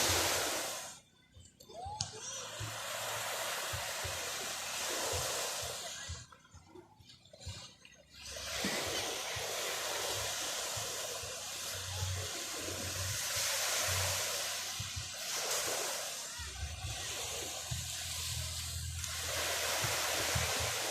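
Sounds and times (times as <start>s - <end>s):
ocean surf washing onto beach: 0.0s - 1.0s, 2.1s - 6.3s, 8.3s - 20.9s.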